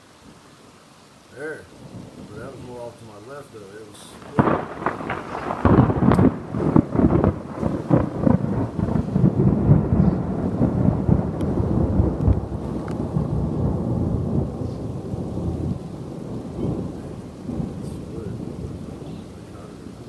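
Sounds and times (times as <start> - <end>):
crackling thunder rumble: 1.3 - 20.0.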